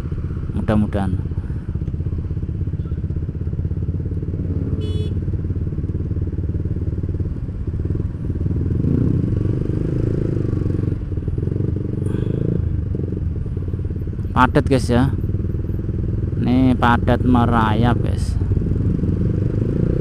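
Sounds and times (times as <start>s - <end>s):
motorcycle engines idling: 0.0s - 19.5s.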